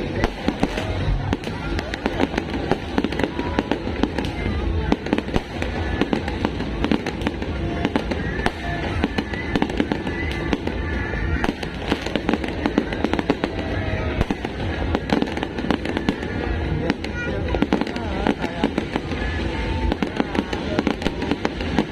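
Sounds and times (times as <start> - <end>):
fireworks bangs and crackles: 0.0 - 21.9
music playing: 0.0 - 21.9.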